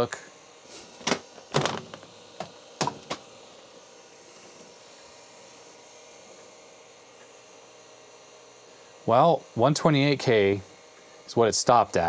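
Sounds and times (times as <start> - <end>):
computer fan humming: 0.0 - 12.0.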